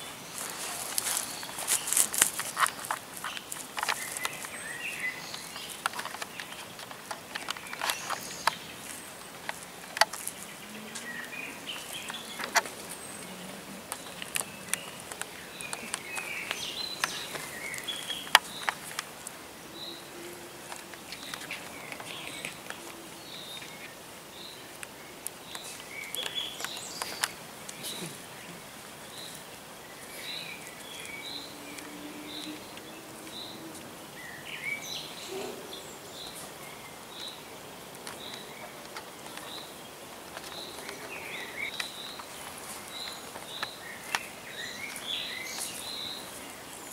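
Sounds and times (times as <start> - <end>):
birds chirping: 0.0 - 46.9
footsteps crunching: 0.0 - 46.9.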